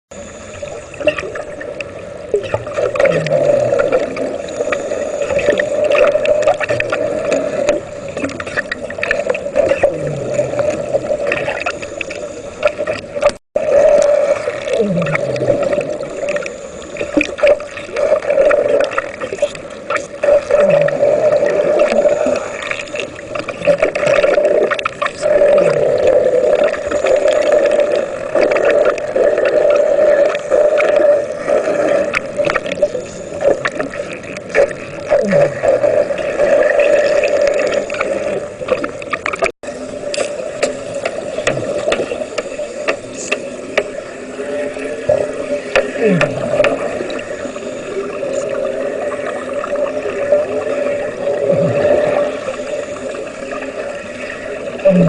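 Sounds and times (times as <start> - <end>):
gurgling bubbles: 0.1 - 55.0
underwater welding buzzing hum: 0.1 - 55.0.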